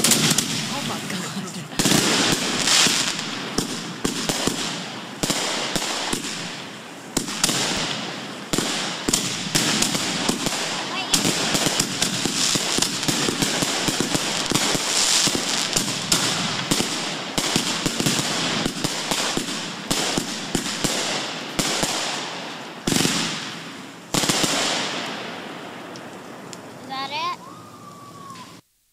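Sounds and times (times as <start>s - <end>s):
firework bang: 0.0s - 25.8s
fireworks crackling: 0.0s - 28.9s.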